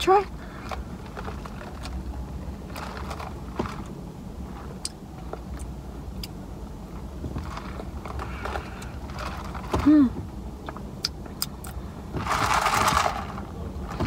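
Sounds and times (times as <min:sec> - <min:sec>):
low hum inside a car: 0:00.0 - 0:14.0.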